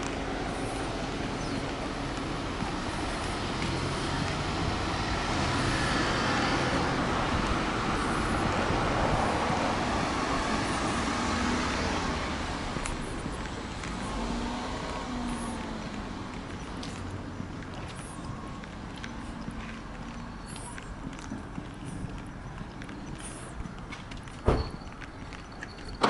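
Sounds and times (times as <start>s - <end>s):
car passing: 0.0s - 25.5s.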